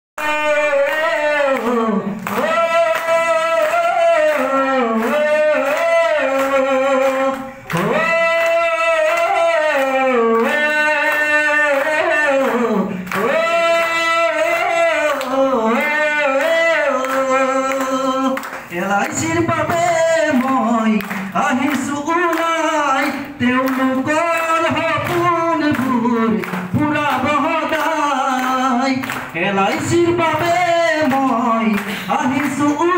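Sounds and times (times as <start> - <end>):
man singing into a microphone: 0.2 - 32.9.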